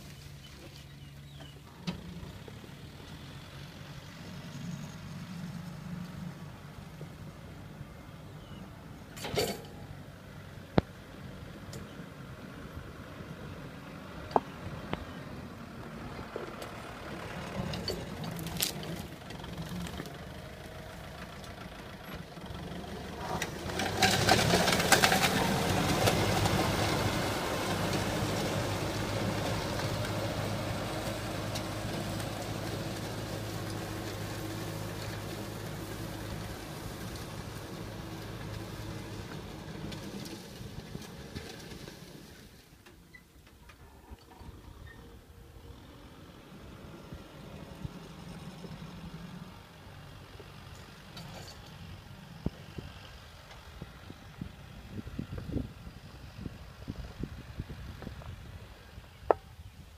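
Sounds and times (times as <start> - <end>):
tractor diesel engine: 0.0 - 59.9.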